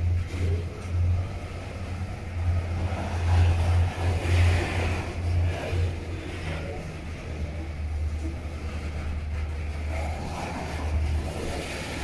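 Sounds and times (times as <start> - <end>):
freight train wheels on rails: 0.0 - 12.0.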